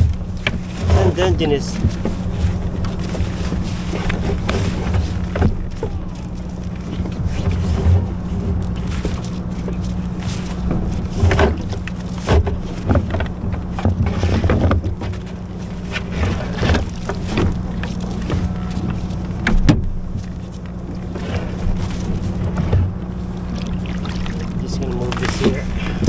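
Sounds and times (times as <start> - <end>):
knocks and rattles of gear: 0.0 - 23.6
low mechanical hum: 0.0 - 26.0.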